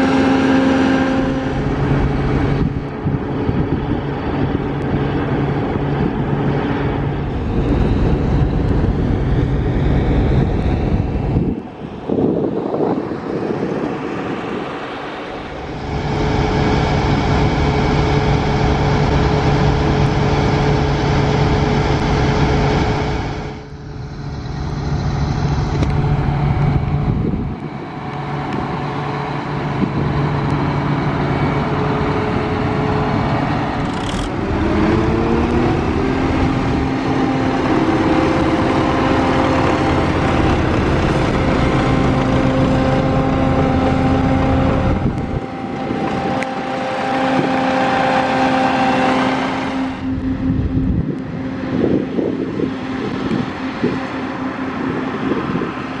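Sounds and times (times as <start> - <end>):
diesel farm machinery engines: 0.0 - 56.0.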